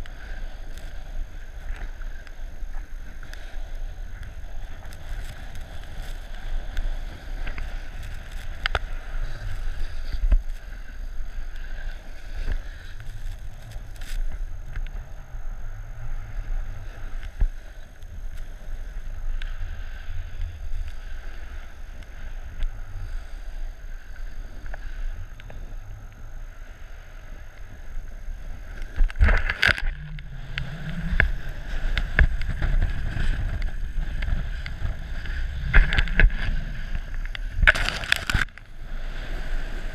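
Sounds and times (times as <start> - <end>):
snowboard scraping over snow: 0.0 - 25.1, 28.1 - 39.9
wind rumbling on microphone: 0.0 - 39.9.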